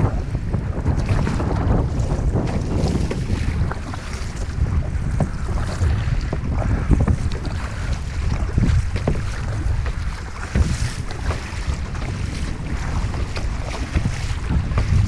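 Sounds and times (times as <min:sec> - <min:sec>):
water splashing against kayak: 0:00.0 - 0:15.0
wind buffeting microphone: 0:00.0 - 0:15.0.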